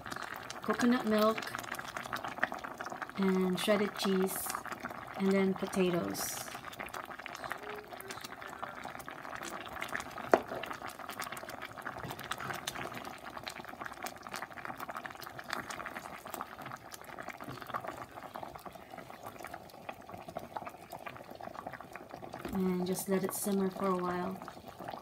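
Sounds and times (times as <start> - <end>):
stew bubbling in a pot: 0.0 - 25.0.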